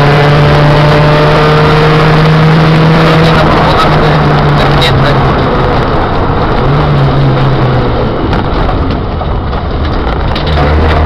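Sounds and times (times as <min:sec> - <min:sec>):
car engine hum: 0:00.0 - 0:11.0
tyre noise on wet road: 0:00.0 - 0:11.0.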